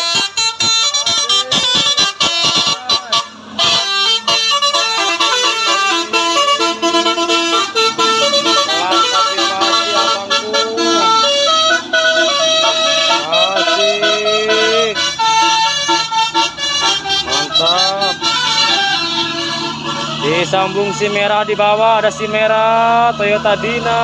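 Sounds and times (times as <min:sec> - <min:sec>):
truck horns blaring: 0:00.0 - 0:24.0.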